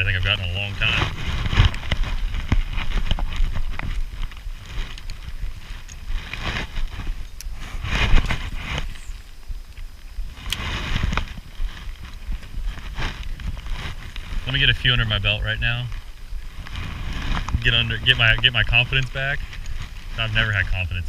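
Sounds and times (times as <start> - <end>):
noisy bursts: 0.0 - 21.0
steady low rumble: 0.0 - 21.0.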